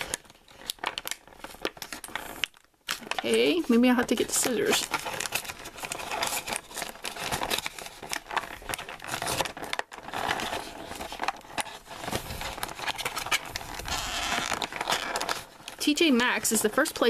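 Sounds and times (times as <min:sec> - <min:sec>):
cardboard packaging being torn: 0:00.0 - 0:03.3, 0:04.2 - 0:15.8.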